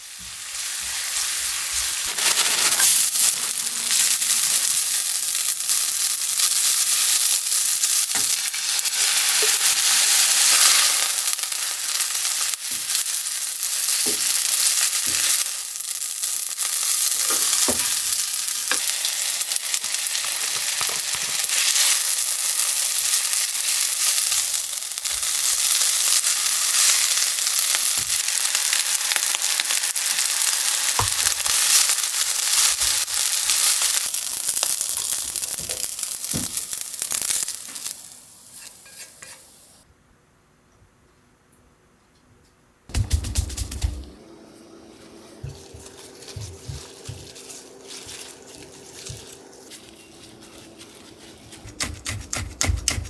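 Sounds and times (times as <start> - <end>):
food sizzling in frying pan: 0.0 - 39.9, 45.4 - 53.0.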